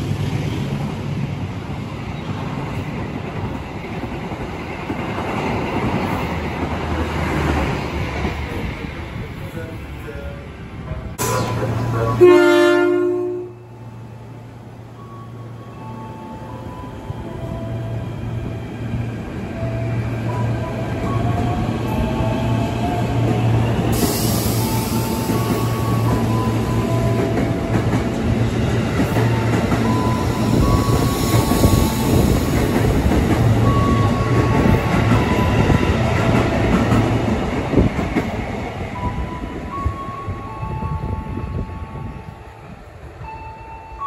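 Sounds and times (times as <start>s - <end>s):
electric train passing: 0.0s - 44.0s.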